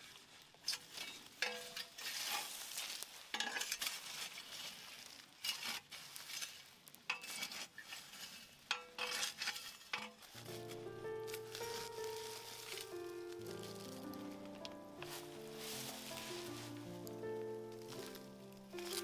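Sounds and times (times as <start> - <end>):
charcoal scraping in iron pot: 0.6 - 19.0.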